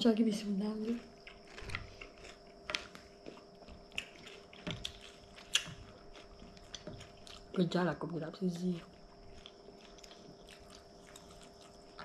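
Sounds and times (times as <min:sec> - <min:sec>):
crunchy chewing: 0:00.4 - 0:12.0.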